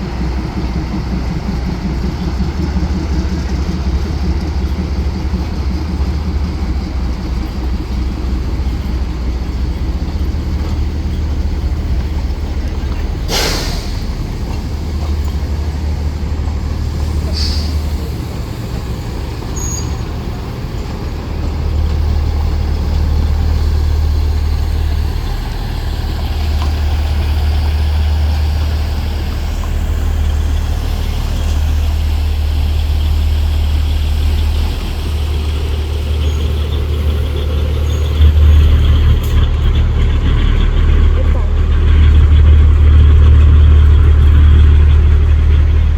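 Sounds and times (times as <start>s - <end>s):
toy train rumbling: 0.0s - 45.9s.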